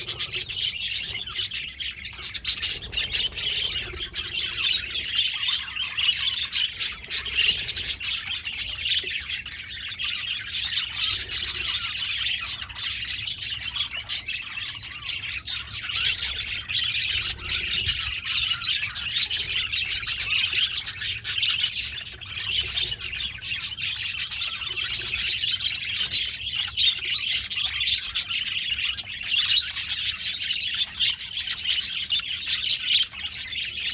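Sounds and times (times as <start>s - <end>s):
budgerigars chattering: 0.0s - 33.9s.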